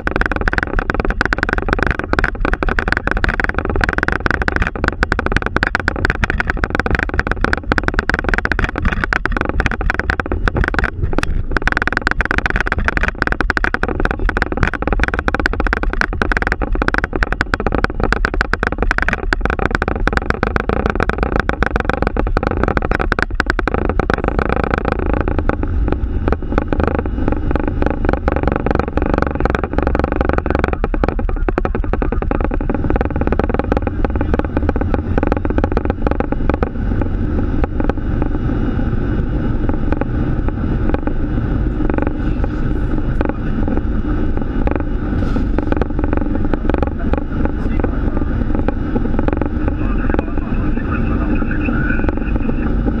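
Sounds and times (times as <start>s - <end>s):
engine and airflow rush: 0.0s - 53.0s
rapid rattling knocks: 0.0s - 53.0s.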